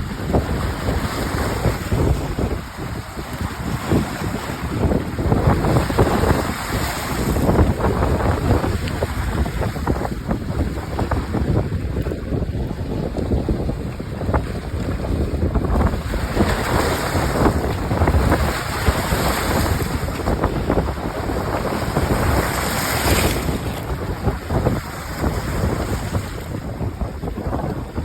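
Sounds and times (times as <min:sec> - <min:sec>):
waves breaking on shore: 0:00.0 - 0:28.0
wind buffeting microphone: 0:00.0 - 0:28.0.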